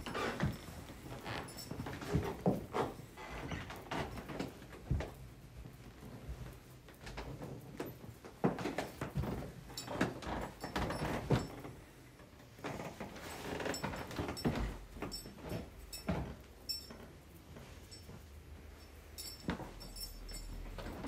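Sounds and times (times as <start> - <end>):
people moving and settling into seats: 0.0 - 21.0.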